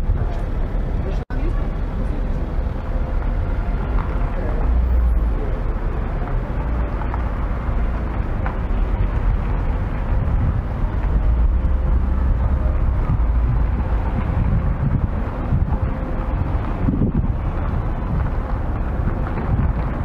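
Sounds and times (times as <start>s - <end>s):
road traffic rumble: 0.0s - 20.0s
wind buffeting microphone: 2.3s - 20.0s.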